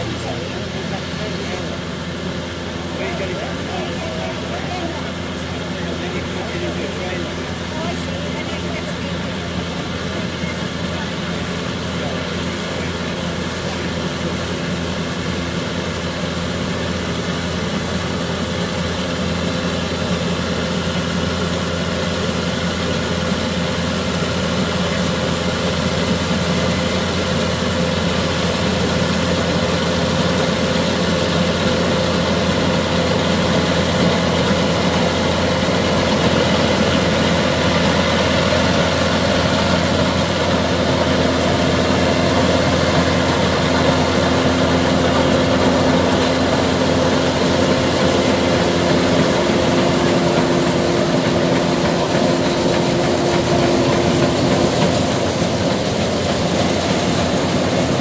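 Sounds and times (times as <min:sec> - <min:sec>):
combine harvester drone: 0:00.0 - 0:58.0.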